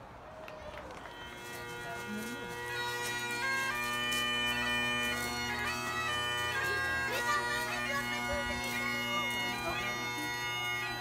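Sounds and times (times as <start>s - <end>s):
bagpipe band playing: 1.0s - 11.0s.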